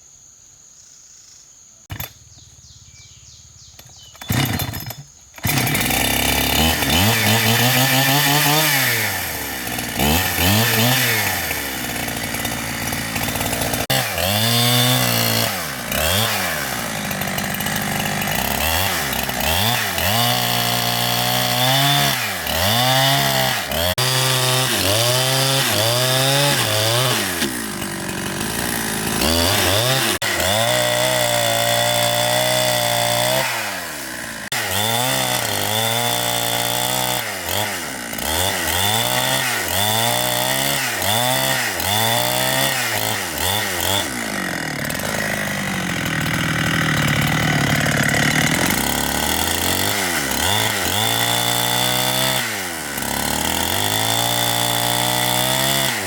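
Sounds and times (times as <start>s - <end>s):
chainsaw revving: 3.7s - 56.0s.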